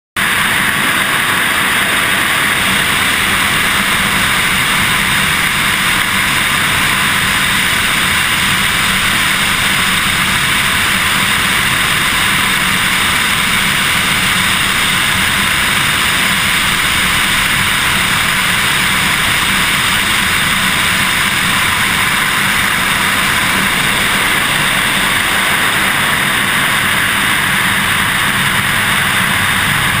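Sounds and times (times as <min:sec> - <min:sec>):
plane engine drone: 0:00.2 - 0:30.0
wind rushing: 0:00.3 - 0:30.0.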